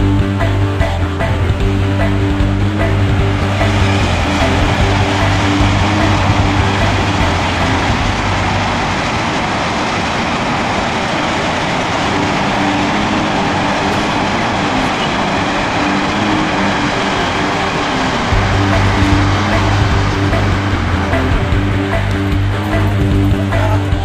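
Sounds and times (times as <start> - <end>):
loud background music: 0.0 - 8.6, 12.0 - 24.0.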